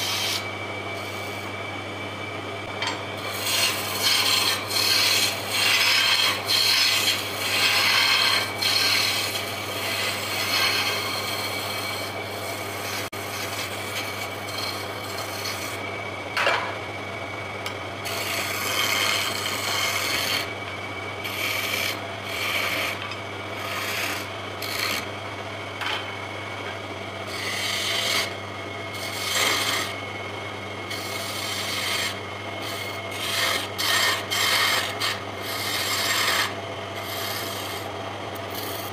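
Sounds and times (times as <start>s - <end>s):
chisel scraping wood on lathe: 0.0s - 1.5s, 2.9s - 15.8s, 18.0s - 20.5s, 21.2s - 25.1s, 27.3s - 30.0s, 30.9s - 38.9s
lathe motor humming: 0.0s - 38.9s.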